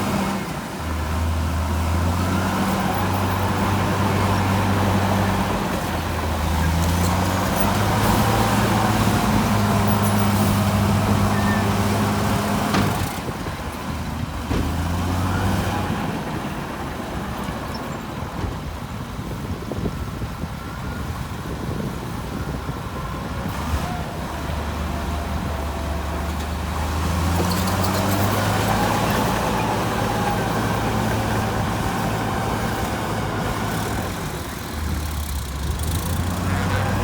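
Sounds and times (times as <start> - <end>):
heavy diesel machine engine: 0.0 - 37.0.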